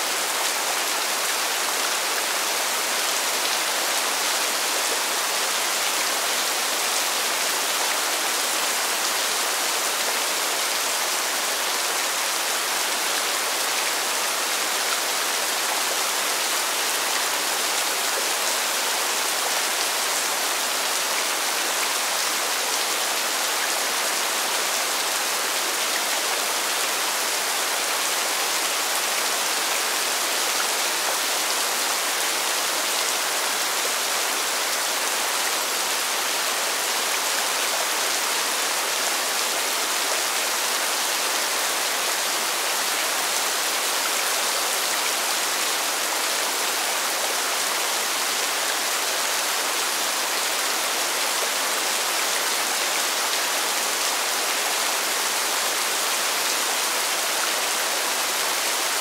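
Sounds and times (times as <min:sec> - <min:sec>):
rain falling on pavement: 0:00.0 - 0:59.0.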